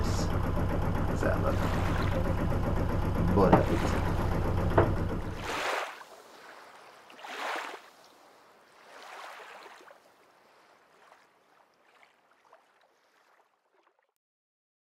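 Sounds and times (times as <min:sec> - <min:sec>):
water washing in surges: 0:01.2 - 0:02.6, 0:03.2 - 0:13.8.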